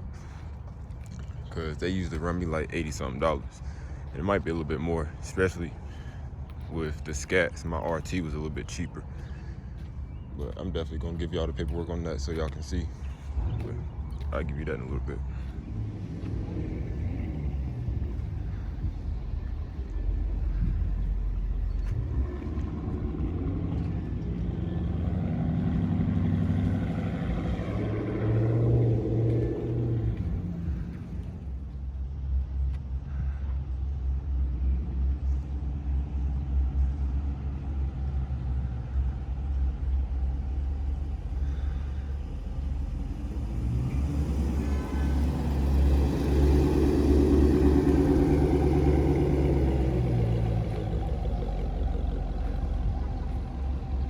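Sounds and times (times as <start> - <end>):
car engine running: 0.0 - 33.6, 34.5 - 54.0.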